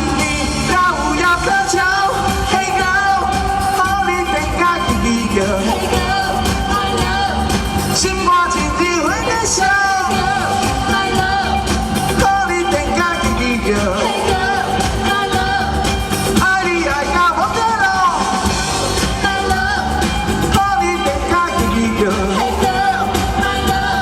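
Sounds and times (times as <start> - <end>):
live pop rock band: 0.0 - 24.0
person singing: 0.0 - 24.0.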